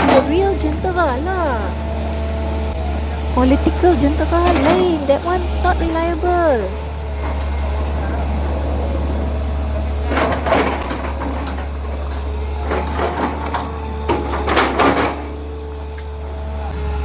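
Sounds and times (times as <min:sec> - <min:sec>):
metal clanking and rattling: 0:00.0 - 0:16.8
excavator diesel engine running: 0:00.0 - 0:17.0.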